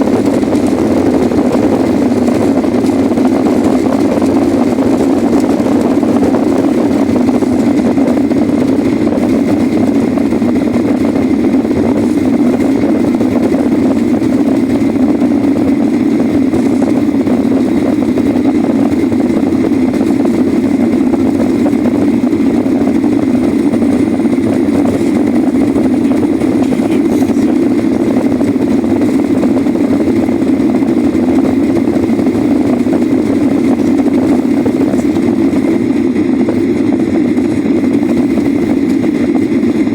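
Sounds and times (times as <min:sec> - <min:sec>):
faint engine whine: 0:00.0 - 0:39.9
jet engines roaring: 0:00.0 - 0:39.9.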